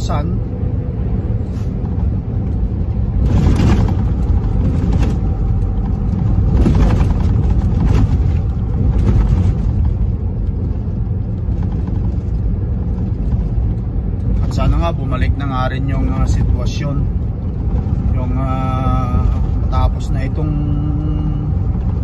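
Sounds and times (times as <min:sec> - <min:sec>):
truck engine and road rumble: 0:00.0 - 0:22.0.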